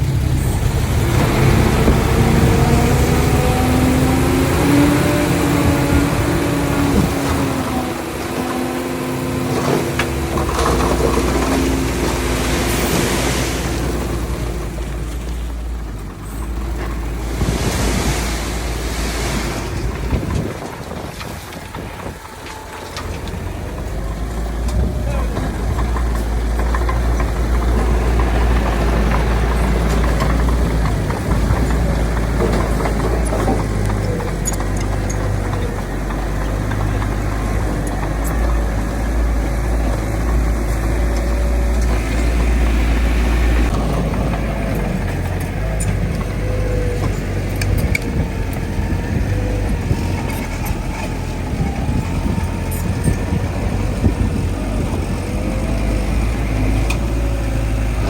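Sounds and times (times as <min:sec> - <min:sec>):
bulldozer diesel engine rumbling: 0:00.0 - 0:58.0.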